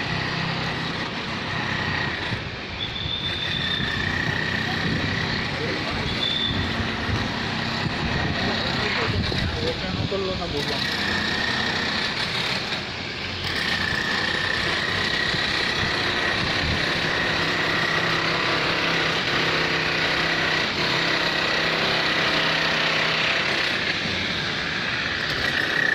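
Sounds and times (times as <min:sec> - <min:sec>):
vehicle running with whine: 0:00.0 - 0:25.5.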